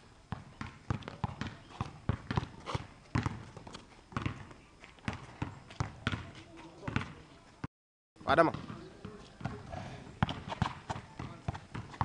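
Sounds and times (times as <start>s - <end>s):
basketball bouncing on hard court: 0.3s - 7.2s, 8.4s - 12.0s.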